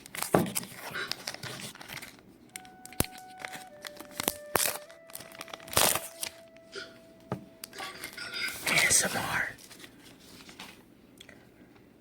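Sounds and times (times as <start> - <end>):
plastic film crinkling: 0.0 - 6.9, 7.5 - 10.8.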